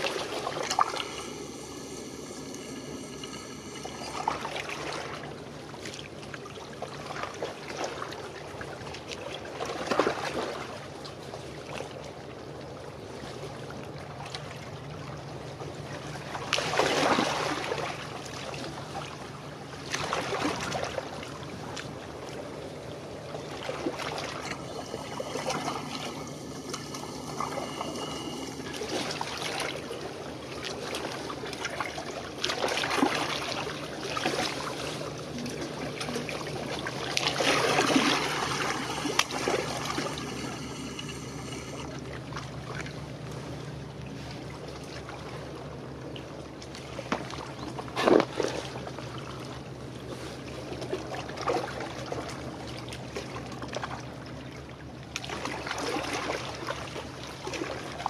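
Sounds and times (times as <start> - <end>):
ship engine drone: 0.0 - 58.0
small waves washing ashore: 0.0 - 58.0.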